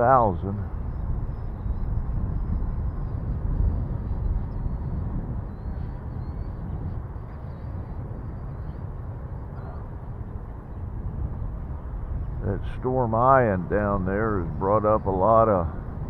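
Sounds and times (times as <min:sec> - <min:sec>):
high whine of electric fan: 0:00.0 - 0:16.0
wind buffeting microphone: 0:00.0 - 0:16.0.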